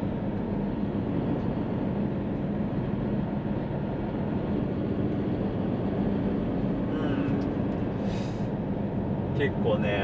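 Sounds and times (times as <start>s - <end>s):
diesel engine: 0.0s - 10.0s
road noise: 0.0s - 10.0s.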